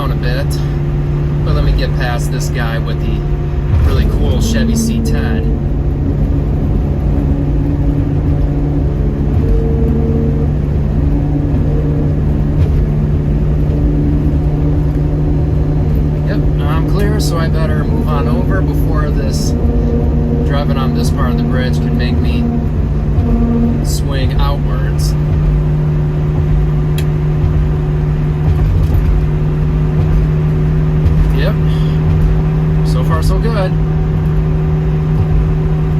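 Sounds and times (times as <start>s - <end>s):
car engine drone: 0.0s - 35.9s
road hum: 0.0s - 35.9s.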